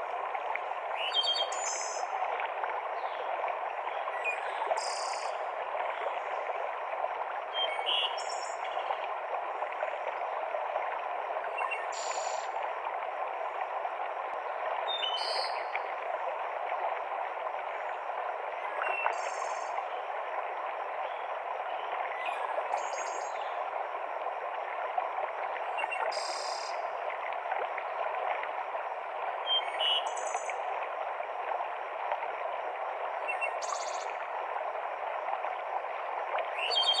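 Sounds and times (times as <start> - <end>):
stream rushing water: 0.0 - 37.0.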